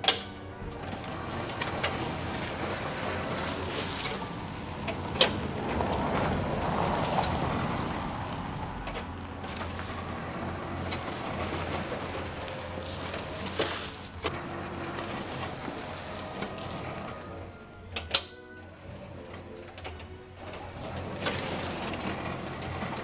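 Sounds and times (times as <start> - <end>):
gravel crunching and scraping: 0.0 - 17.9, 18.7 - 23.0.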